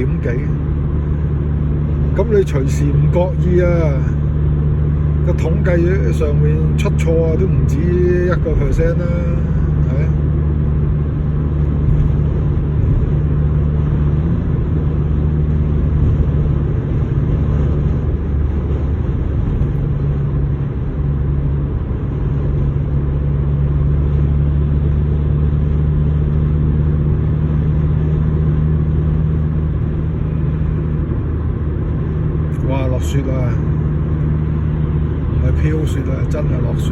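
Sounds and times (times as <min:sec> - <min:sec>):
road and wind noise in car: 0:00.0 - 0:36.9.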